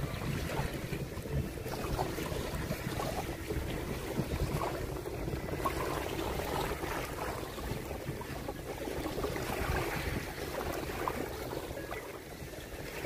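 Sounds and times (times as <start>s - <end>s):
waves washing over pebbles: 0.0s - 13.0s
wind rumbling on microphone: 0.0s - 13.0s.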